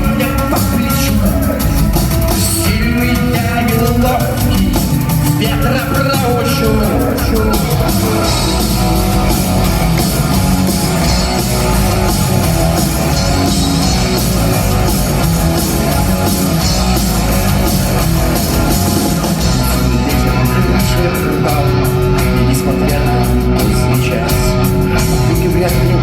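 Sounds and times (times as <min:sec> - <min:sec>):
drum kit: 0:00.0 - 0:26.0
electric guitars: 0:00.0 - 0:26.0.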